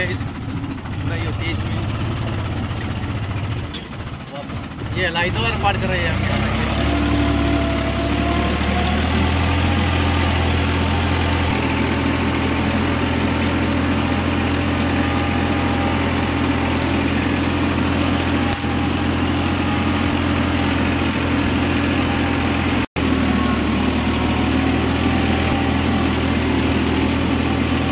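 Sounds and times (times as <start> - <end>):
tractor diesel engine under load: 0.0 - 27.9.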